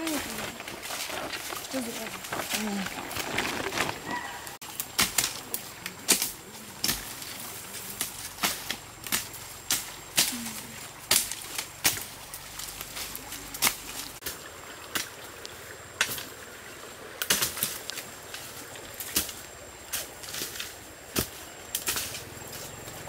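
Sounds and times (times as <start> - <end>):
branches cracking and rustling: 0.0 - 16.3, 17.2 - 23.0
fast-flowing stream: 0.0 - 19.8.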